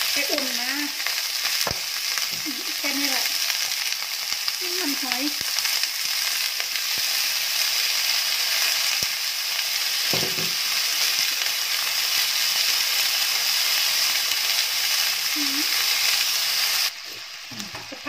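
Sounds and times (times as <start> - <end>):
asparagus sizzling in oil: 0.0 - 18.0.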